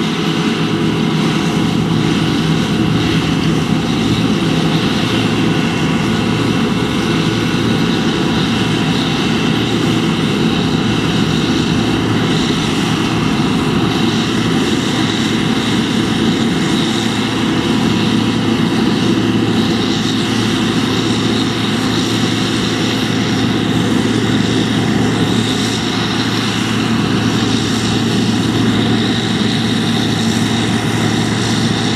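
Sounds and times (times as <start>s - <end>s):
combine harvester running: 0.0s - 31.9s.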